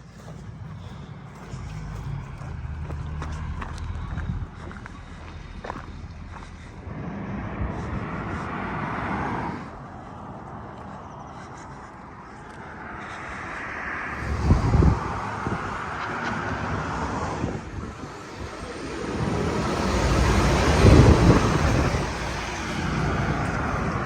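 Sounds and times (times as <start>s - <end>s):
low rumbles: 0.0s - 11.1s, 14.1s - 24.0s
vehicles passing whoosh: 0.4s - 24.0s.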